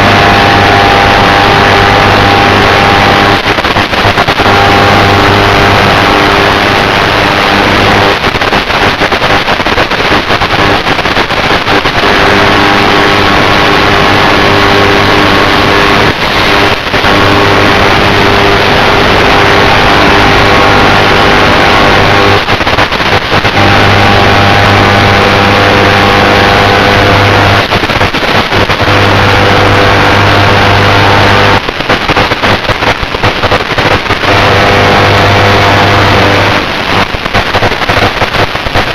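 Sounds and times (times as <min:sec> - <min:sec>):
low motor hum: 0:00.0 - 0:08.3, 0:11.7 - 0:31.6, 0:34.1 - 0:37.1
electric motor and propeller: 0:00.0 - 0:31.7, 0:33.9 - 0:38.0.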